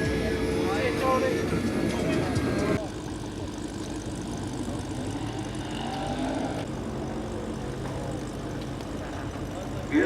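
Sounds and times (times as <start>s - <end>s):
race car engines droning: 0.0s - 10.0s.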